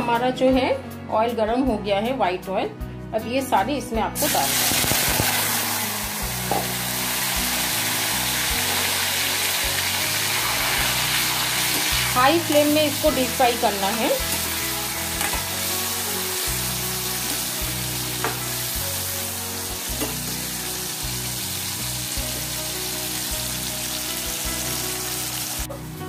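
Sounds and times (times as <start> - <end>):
potato sticks deep-frying sizzle: 4.2 - 26.0.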